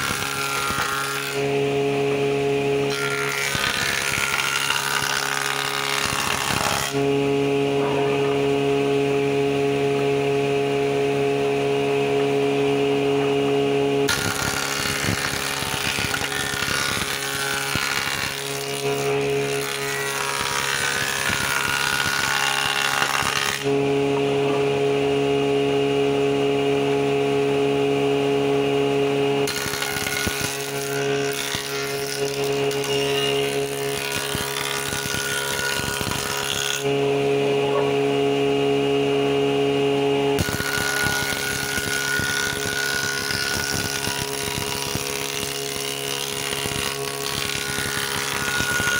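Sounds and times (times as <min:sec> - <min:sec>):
jointer humming: 0:00.0 - 0:48.9
planer cutting wood: 0:00.0 - 0:48.9.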